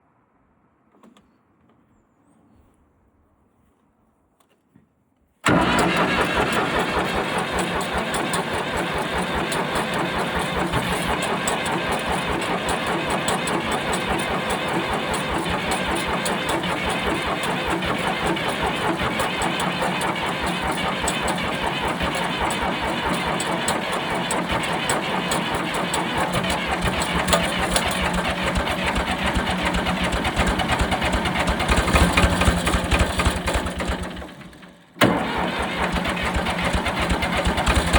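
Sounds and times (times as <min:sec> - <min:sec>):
engine starting and running: 0:05.4 - 0:37.9.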